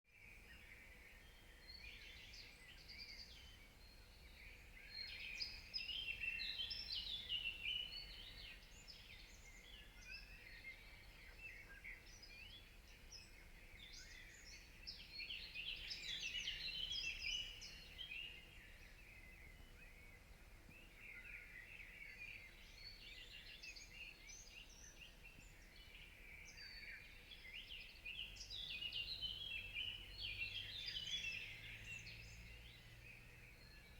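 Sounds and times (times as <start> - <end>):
birds chirping and trilling: 0.3 - 33.9.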